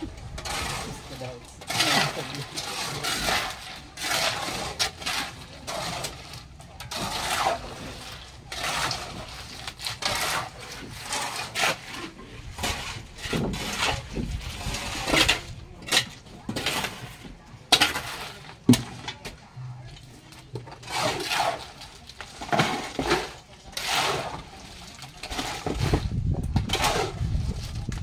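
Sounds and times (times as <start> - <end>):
shovel scraping cement mix: 0.0 - 28.0.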